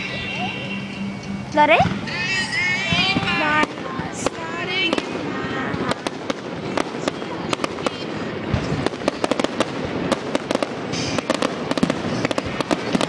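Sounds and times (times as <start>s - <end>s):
fireworks crackling bangs: 1.5s - 13.0s.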